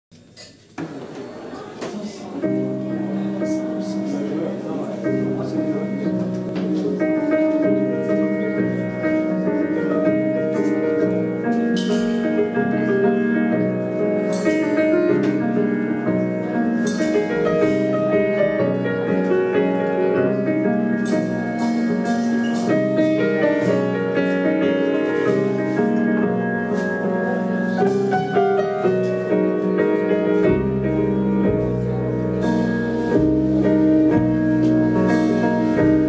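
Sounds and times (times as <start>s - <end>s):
jazz group playing: 1.0s - 36.0s.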